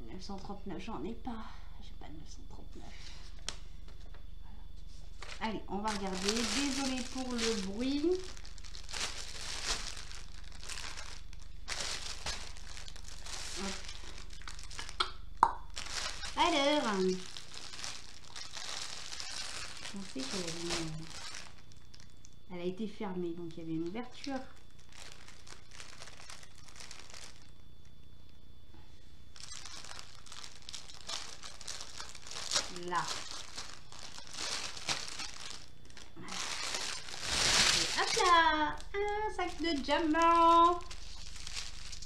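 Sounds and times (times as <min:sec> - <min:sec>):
plastic bag crinkling: 0:05.1 - 0:22.5, 0:23.3 - 0:28.3, 0:29.2 - 0:42.0.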